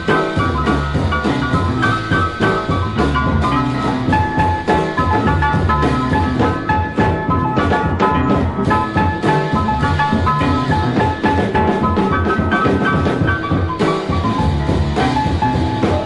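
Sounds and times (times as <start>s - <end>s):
busy drums: 0.0s - 16.0s
double bass: 0.0s - 16.0s
jazz piano: 0.0s - 16.0s.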